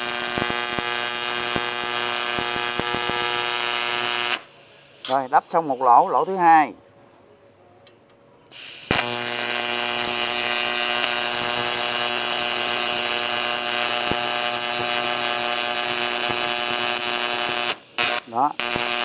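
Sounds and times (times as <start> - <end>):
welding arc buzzing: 0.0 - 6.5, 8.5 - 19.0.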